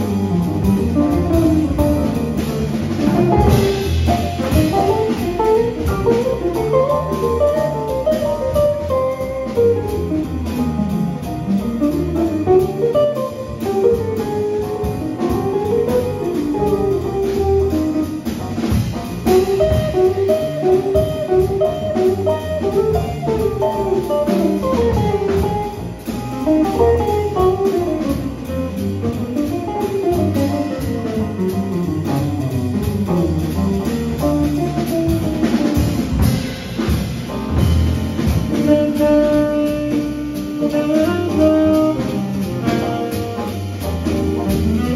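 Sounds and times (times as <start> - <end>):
drum kit: 0.0 - 44.9
upright bass: 0.0 - 44.9.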